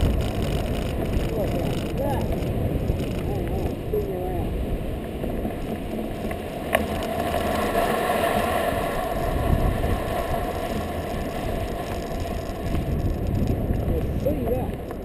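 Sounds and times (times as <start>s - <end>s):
wind rushing: 0.0s - 14.9s
tyres rumbling on sand: 0.0s - 15.0s.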